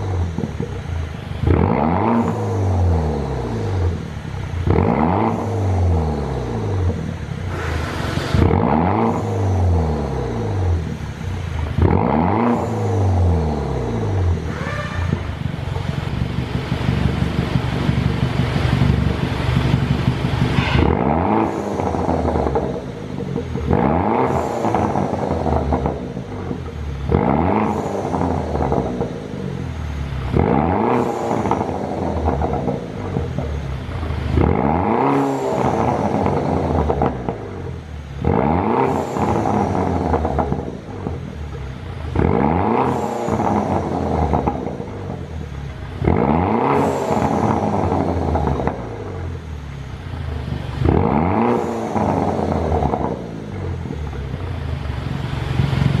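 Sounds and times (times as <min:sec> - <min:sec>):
car engine revving with exhaust crackles: 0:00.0 - 0:56.0.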